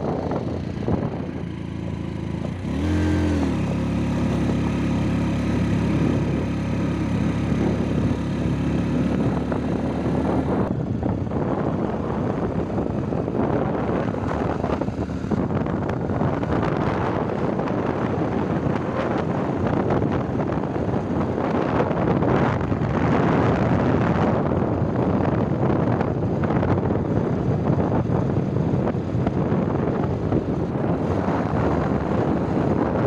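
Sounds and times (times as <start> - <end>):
motorcycle running: 0.0 - 33.0
wind buffeting microphone: 0.0 - 33.0.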